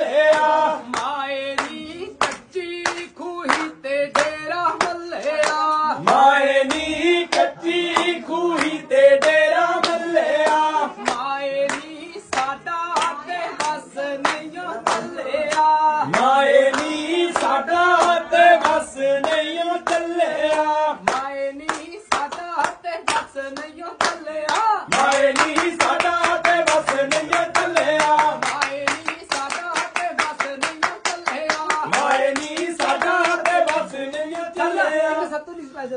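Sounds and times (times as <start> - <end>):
people clapping along: 0.0 - 35.4.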